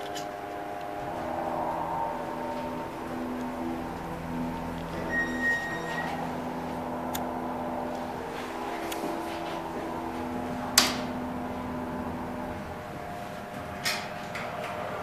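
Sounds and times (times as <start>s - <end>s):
steady low hum: 0.0s - 15.0s
elevator beep: 0.3s - 13.8s.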